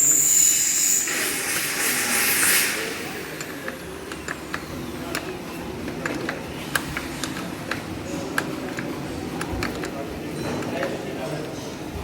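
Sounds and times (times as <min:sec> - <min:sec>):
low background noise: 0:01.8 - 0:12.0.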